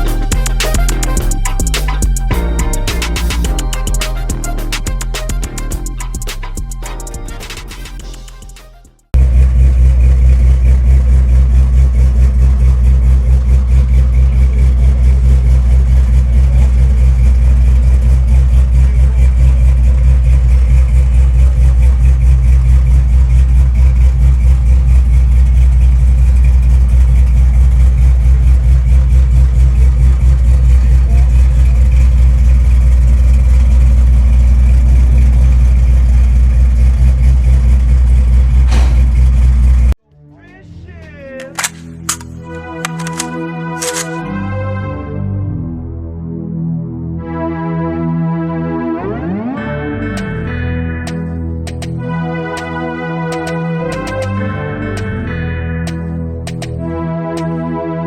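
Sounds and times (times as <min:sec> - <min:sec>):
car engine idling: 0:00.0 - 0:44.1, 0:50.2 - 0:56.8.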